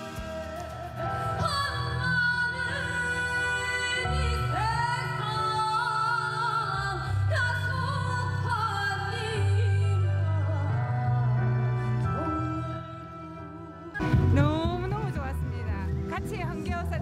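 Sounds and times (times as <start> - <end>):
sustained instrumental accompaniment: 0.0 - 17.0
woman singing: 0.0 - 17.0.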